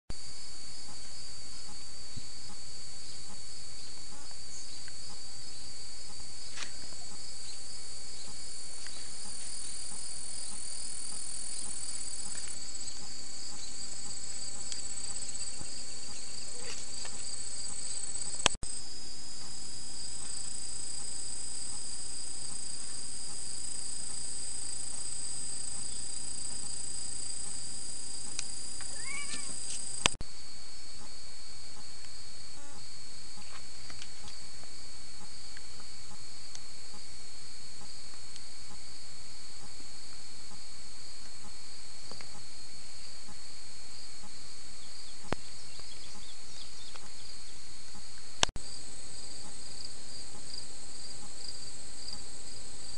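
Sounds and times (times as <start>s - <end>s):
insects trilling: 0.1s - 52.9s.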